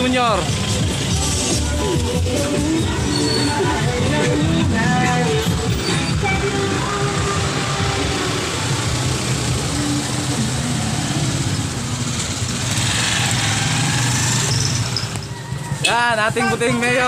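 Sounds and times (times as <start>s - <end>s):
vehicle engines passing slowly: 0.0s - 17.0s.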